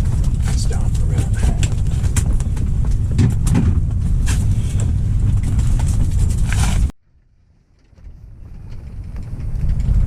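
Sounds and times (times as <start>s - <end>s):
wind buffeting microphone: 0.0s - 6.9s, 7.9s - 10.0s.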